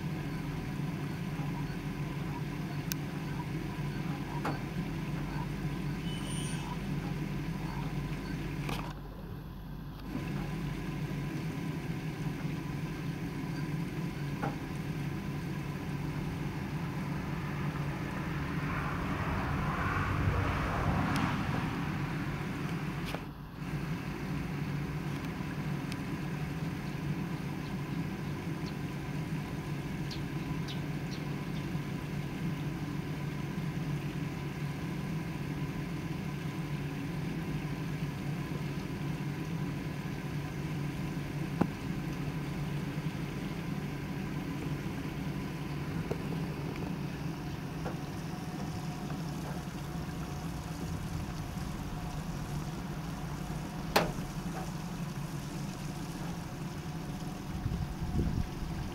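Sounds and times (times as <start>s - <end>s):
low mechanical hum: 0.0s - 58.9s.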